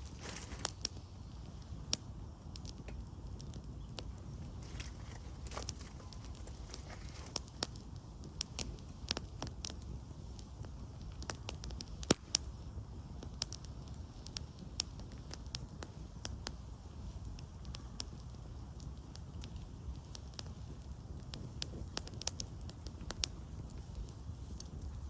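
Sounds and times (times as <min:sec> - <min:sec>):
campfire crackling and popping: 0:00.0 - 0:25.0
low steady rumble: 0:00.0 - 0:25.0.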